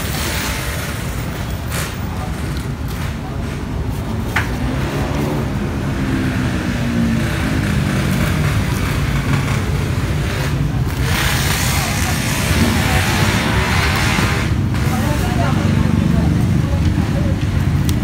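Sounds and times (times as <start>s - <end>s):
loud rushing noise: 0.0s - 16.6s
low rumble of vehicle engines: 0.0s - 18.0s.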